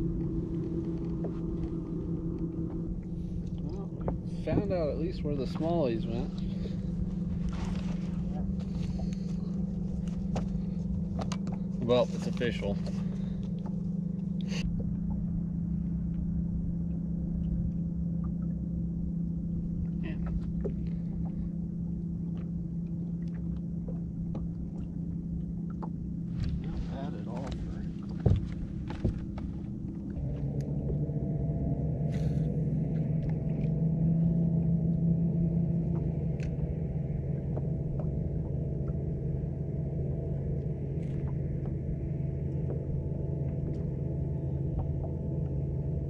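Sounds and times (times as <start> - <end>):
low mechanical hum: 0.0 - 46.0
low rumble: 0.0 - 46.0.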